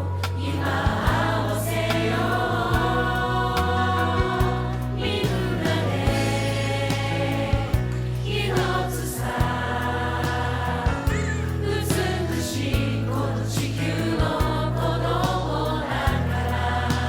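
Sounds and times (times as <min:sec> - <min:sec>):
choral singing over a beat: 0:00.0 - 0:17.0.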